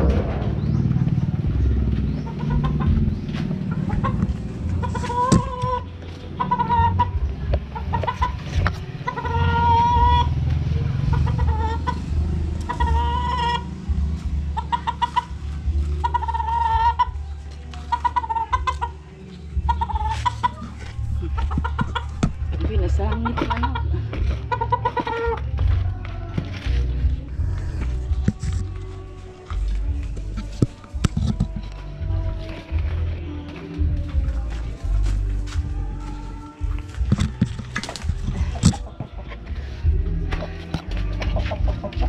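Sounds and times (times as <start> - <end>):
low rumble: 0.0 - 17.4, 19.5 - 42.0
chickens clucking: 0.0 - 42.0.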